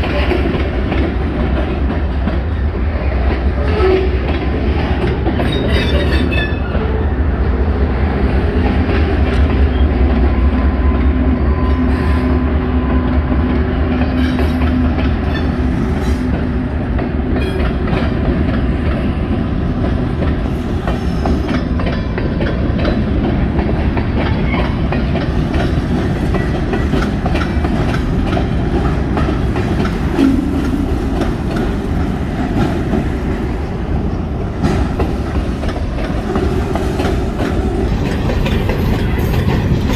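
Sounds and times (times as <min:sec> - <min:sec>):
train wheels clicking over rail joints: 0:00.0 - 0:06.9, 0:12.9 - 0:39.9
diesel locomotive drone: 0:00.0 - 0:39.9
freight train rumble: 0:00.0 - 0:39.9.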